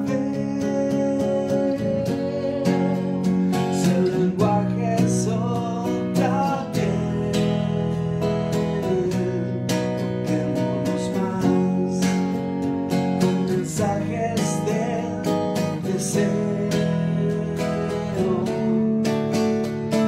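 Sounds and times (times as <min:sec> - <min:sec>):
electric guitar strumming: 0:00.0 - 0:20.0.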